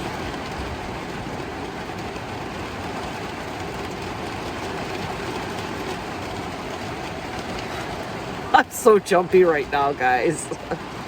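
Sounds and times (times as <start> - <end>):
rain on van roof: 0.0 - 11.0.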